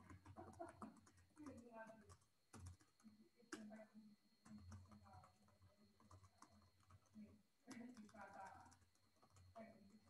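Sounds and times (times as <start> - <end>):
computer keyboard typing: 0.0 - 10.0.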